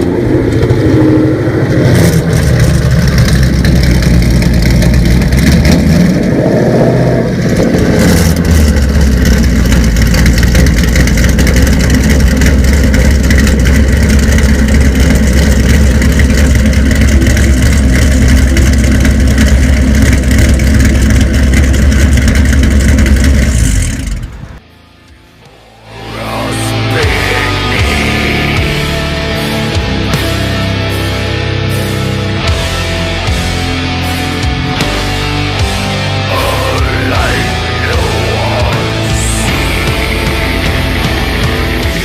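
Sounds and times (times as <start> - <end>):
loud car engine revving: 0.0 - 24.6, 25.3 - 42.0.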